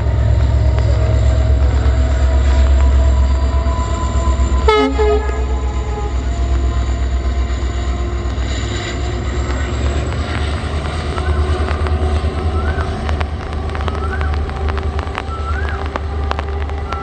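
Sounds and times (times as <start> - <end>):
train horn blast: 0.0 - 17.0
train rumbling: 0.0 - 17.0.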